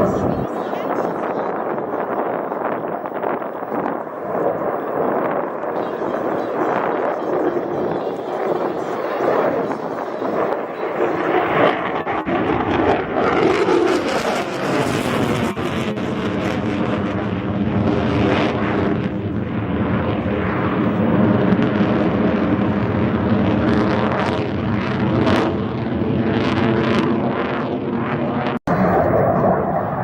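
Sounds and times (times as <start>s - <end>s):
jet engines in flight: 0.0s - 30.0s.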